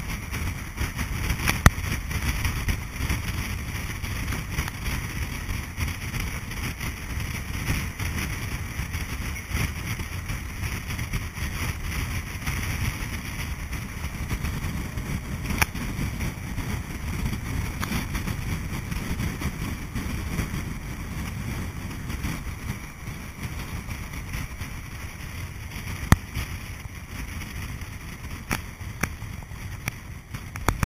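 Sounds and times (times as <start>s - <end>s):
bus engine and tyre rumble: 0.0s - 30.9s.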